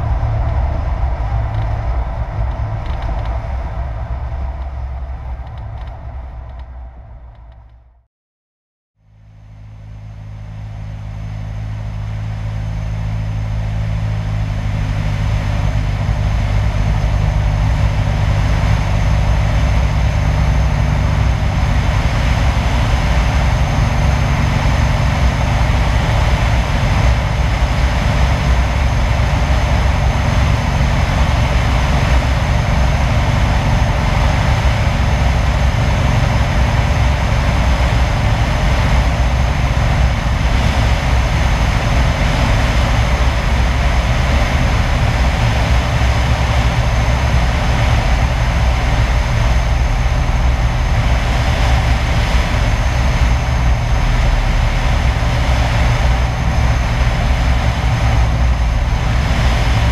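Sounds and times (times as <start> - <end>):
wind rush: 0.0 - 7.7, 10.8 - 59.9
light airplane engine and propeller: 0.0 - 7.9, 9.0 - 59.9.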